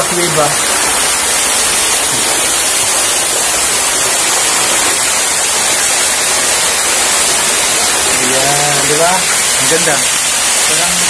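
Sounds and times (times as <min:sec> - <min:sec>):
waterfall pouring into pool: 0:00.0 - 0:11.0.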